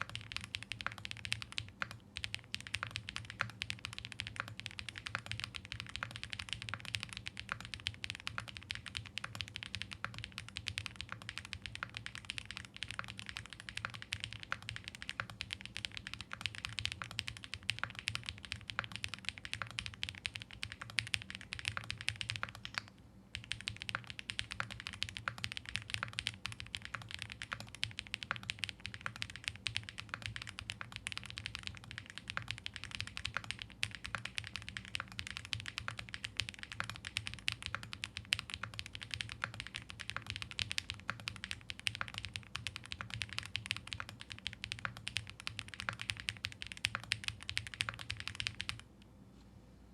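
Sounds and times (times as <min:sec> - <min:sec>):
fast mechanical keyboard typing: 0:00.0 - 0:48.8.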